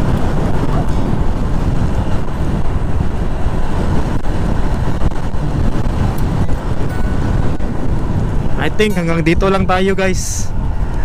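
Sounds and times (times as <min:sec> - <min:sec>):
motorcycle road noise: 0:00.0 - 0:11.0
wind buffeting microphone: 0:00.0 - 0:11.0.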